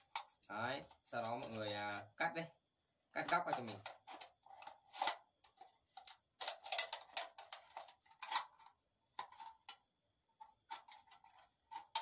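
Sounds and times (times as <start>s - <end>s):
crinkling of aluminium can: 0.0s - 2.2s, 3.2s - 12.0s.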